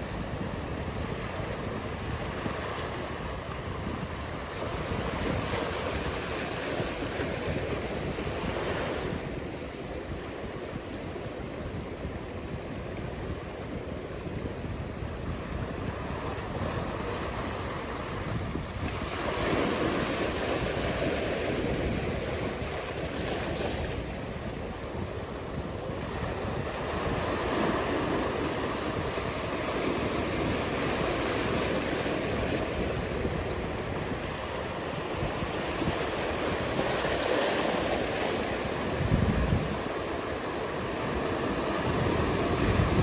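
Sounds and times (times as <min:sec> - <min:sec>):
ocean surf breaking: 0:00.0 - 0:43.0
wind on microphone: 0:00.0 - 0:43.0.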